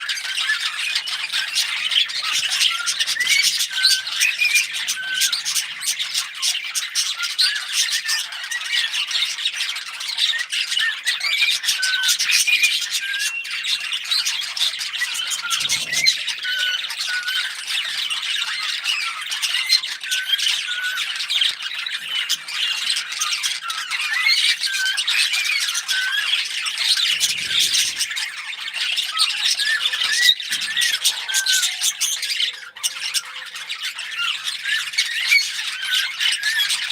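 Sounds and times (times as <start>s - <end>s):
parrots chirping and chattering: 0.0s - 36.9s.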